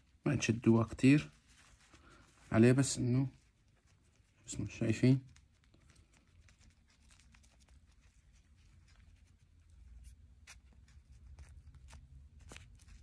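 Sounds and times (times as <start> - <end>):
faint rustling: 0.0 - 13.0.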